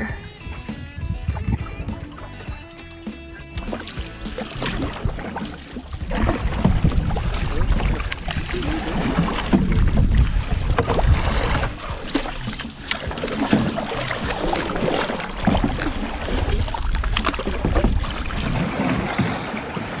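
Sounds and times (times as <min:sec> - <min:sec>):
rumble of water and air: 0:00.0 - 0:03.0, 0:03.6 - 0:20.0
paddle strokes splashing: 0:00.4 - 0:20.0.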